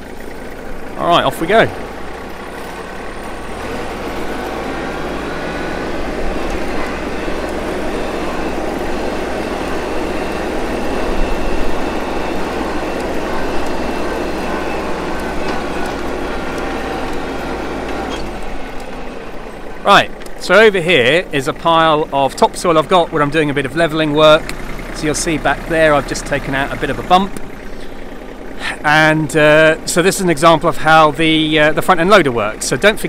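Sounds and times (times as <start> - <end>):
tractor diesel engine: 0.0 - 33.0.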